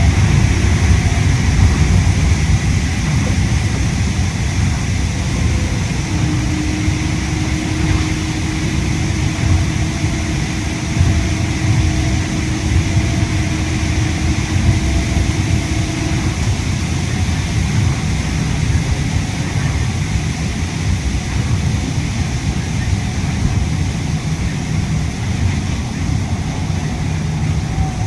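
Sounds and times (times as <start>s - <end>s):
air-conditioning hiss: 0.0s - 28.0s
monorail low rumble: 0.0s - 28.0s
steady humming tone: 0.0s - 28.0s.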